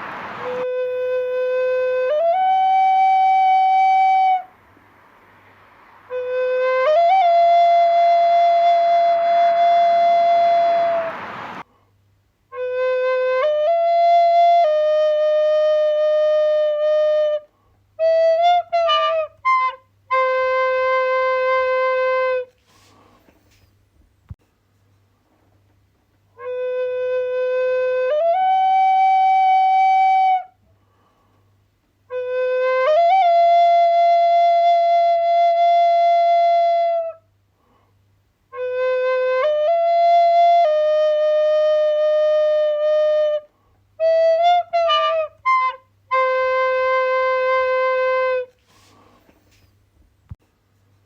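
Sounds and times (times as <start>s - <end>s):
flute-like wind instrument: 0.0s - 4.6s, 6.0s - 11.7s, 12.5s - 23.7s, 26.3s - 30.6s, 32.0s - 37.4s, 38.5s - 49.7s.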